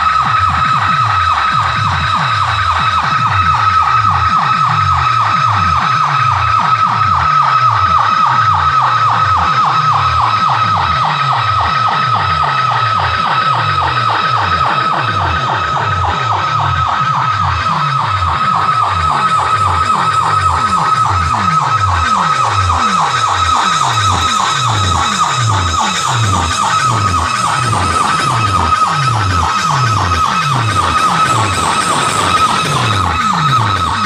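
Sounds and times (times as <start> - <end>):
electronic dance music: 0.0 - 34.0
siren-like high whine: 0.0 - 34.0.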